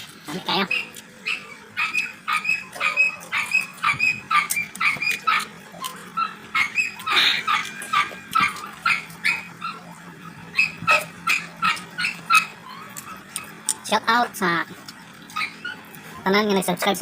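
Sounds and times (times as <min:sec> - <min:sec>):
chewing crunchy mango: 0:00.0 - 0:13.9, 0:14.6 - 0:16.2.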